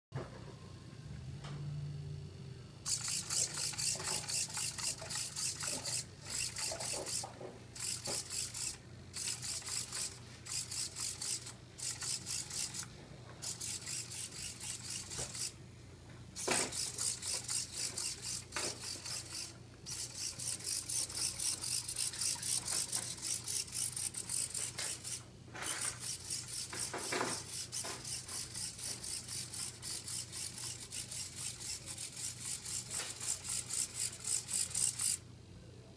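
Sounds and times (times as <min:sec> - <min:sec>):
servo motors buzzing: 0:02.8 - 0:15.6, 0:16.4 - 0:35.2.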